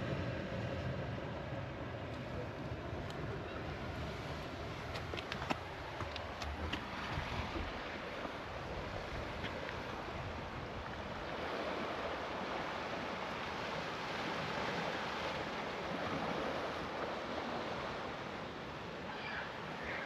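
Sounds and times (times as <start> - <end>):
sea surf: 0.0 - 20.0
wind: 0.0 - 20.0.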